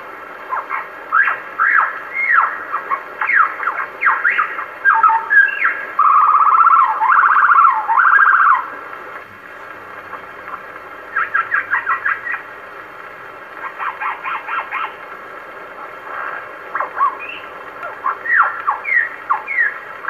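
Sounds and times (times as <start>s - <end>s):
bird song on old record: 0.0s - 20.0s
record hiss: 0.0s - 20.0s.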